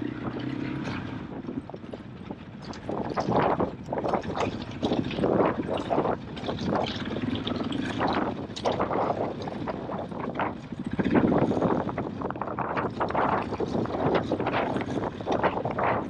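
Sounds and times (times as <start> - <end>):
motorcycle engine at low revs: 0.0 - 16.0
tyres on rough ground: 0.0 - 16.0.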